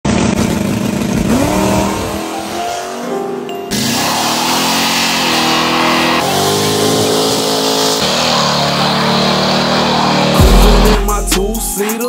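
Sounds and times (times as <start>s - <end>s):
car engines revving: 0.1s - 11.4s.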